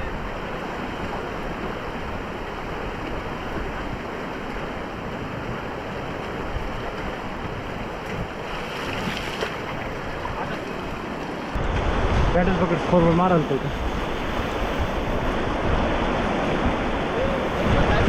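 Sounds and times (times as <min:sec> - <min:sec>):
whitewater rushing: 0:00.0 - 0:18.0
wind buffeting microphone: 0:00.0 - 0:18.0.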